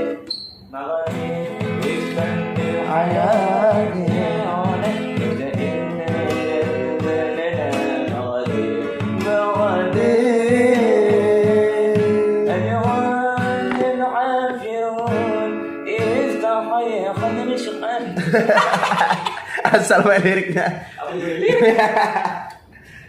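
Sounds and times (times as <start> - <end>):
strummed acoustic guitar: 0.0 - 22.3.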